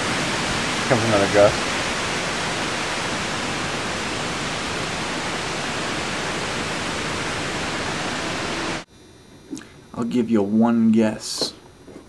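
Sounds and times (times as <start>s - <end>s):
storm wind through trees: 0.0s - 10.4s.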